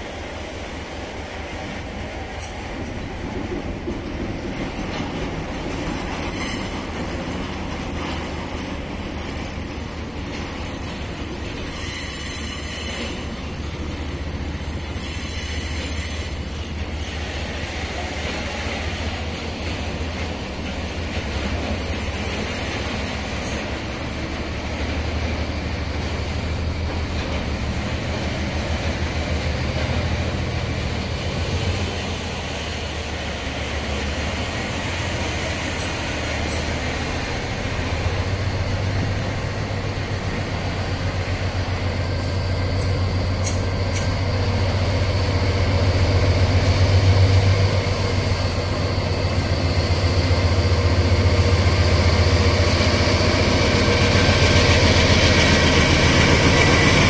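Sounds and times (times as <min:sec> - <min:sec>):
diesel locomotive hum: 0:00.0 - 0:57.0
train wheels rumbling on rails: 0:00.0 - 0:57.0.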